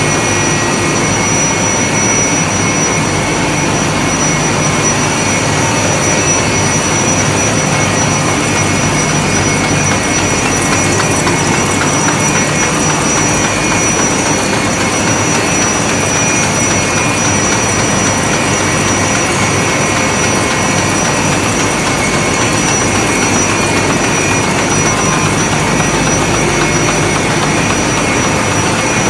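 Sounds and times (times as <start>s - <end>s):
high machine whine: 0.0s - 29.0s
production line mechanical din: 0.0s - 29.0s.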